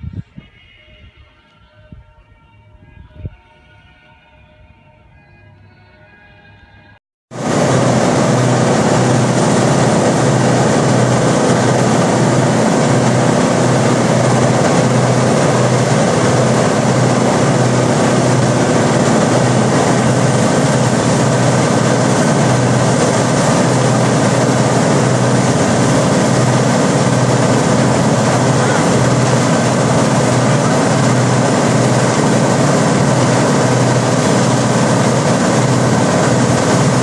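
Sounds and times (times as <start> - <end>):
tree chipper running: 7.3 - 37.0.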